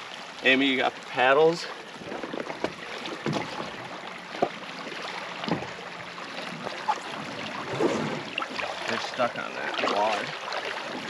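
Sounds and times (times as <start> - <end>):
river water rushing: 0.0 - 11.0
water swirling around wading legs: 0.0 - 11.0.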